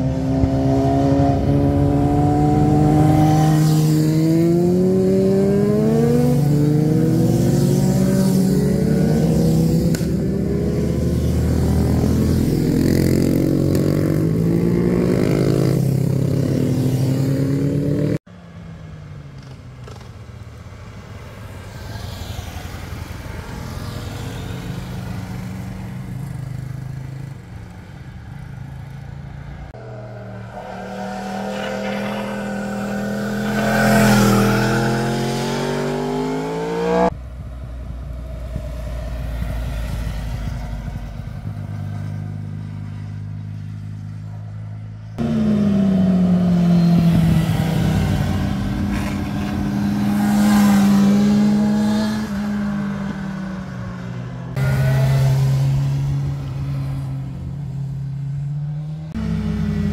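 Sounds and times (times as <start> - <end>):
motorcycles riding past: 0.0 - 18.6, 19.3 - 59.9.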